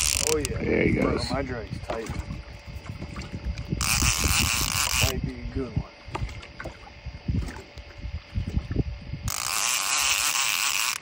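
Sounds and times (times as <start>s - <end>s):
fishing reel drag buzzing: 0.0s - 11.0s.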